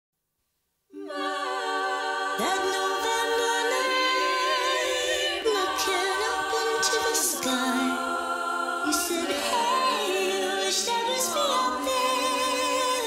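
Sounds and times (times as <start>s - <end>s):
a cappella choir singing: 0.9s - 13.0s.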